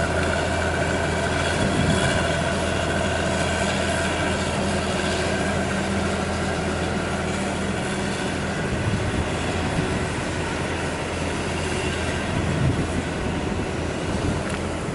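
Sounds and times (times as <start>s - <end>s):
combine diesel engine running: 0.0s - 14.9s.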